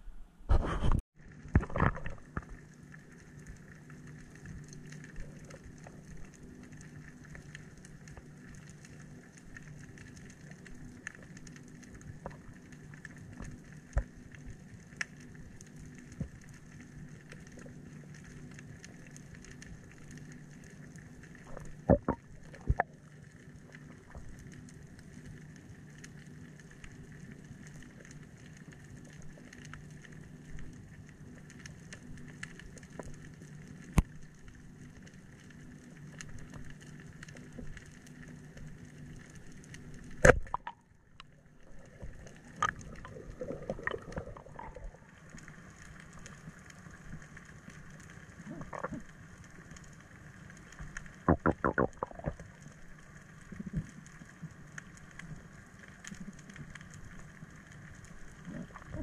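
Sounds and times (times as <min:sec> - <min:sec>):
steady low underwater hum: 0:00.0 - 0:59.0
faint crackling clicks: 0:00.5 - 0:59.0.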